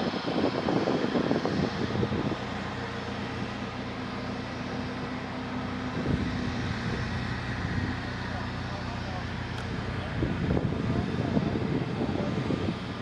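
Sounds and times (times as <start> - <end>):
jet engine rumble: 0.0 - 13.0
low hum: 1.6 - 13.0.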